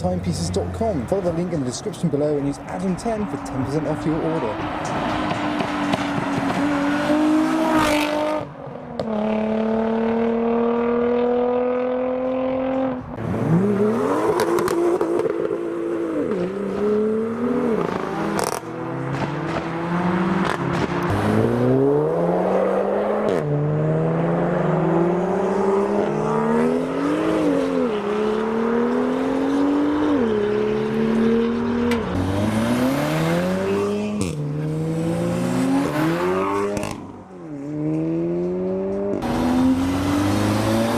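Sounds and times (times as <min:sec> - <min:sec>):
car engines revving through gears: 0:00.0 - 0:40.9.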